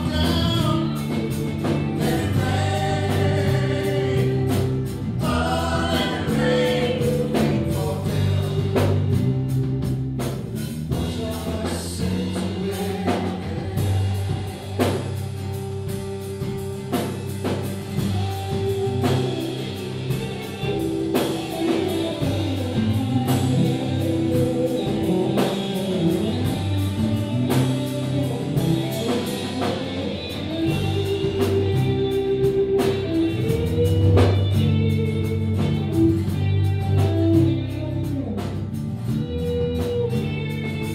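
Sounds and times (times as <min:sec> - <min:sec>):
person singing: 0:00.0 - 0:09.4, 0:10.9 - 0:15.4, 0:18.2 - 0:38.4
live band playing: 0:00.0 - 0:40.9.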